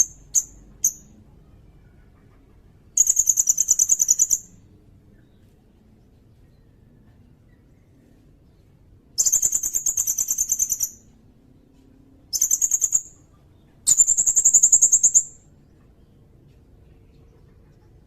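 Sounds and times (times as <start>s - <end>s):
bird singing rolling trills: 0.0s - 2.1s, 2.9s - 18.0s.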